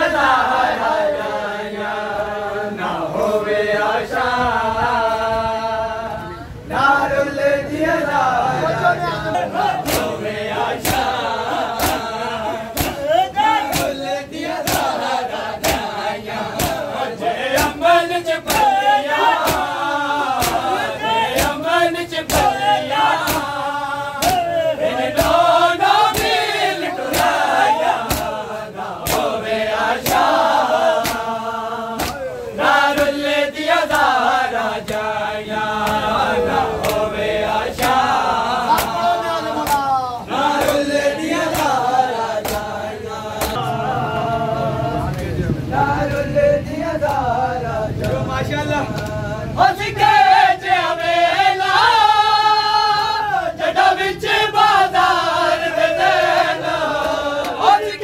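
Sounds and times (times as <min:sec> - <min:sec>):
men chanting a lament in unison: 0:00.0 - 0:58.0
sharp rhythmic slaps: 0:07.8 - 0:44.3, 0:45.0 - 0:58.0.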